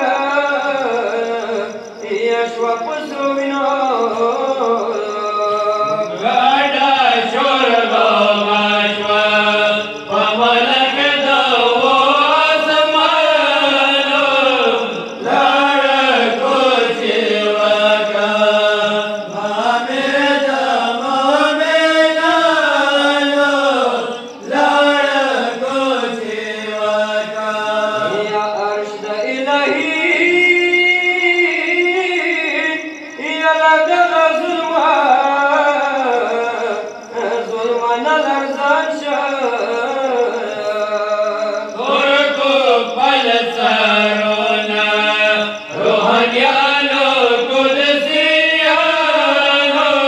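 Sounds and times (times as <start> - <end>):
person chanting a lament: 0.0 - 50.0.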